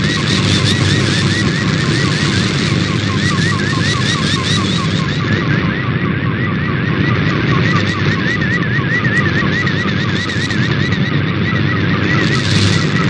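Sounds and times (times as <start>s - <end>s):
radio static: 0.0s - 13.0s
warbling digital tone: 0.0s - 13.0s.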